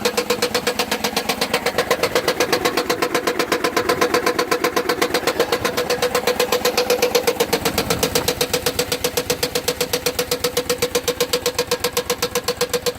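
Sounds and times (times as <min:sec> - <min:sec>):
engine knocking: 0:00.0 - 0:12.9.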